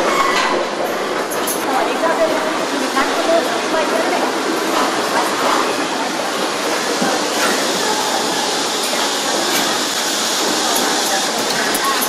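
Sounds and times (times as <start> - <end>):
conveyors running: 0.0 - 12.0
machinery running: 0.0 - 12.0.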